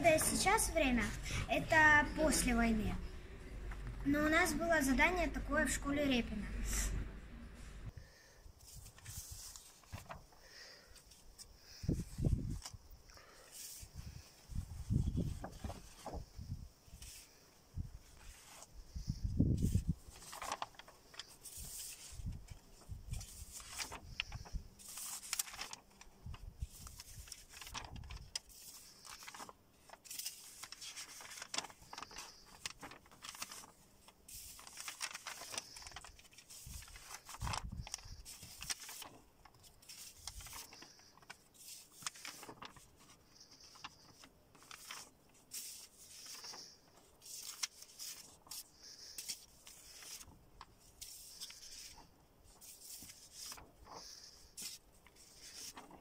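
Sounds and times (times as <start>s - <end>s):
paper sheets rustling and sliding: 0.0s - 7.0s, 8.6s - 56.0s.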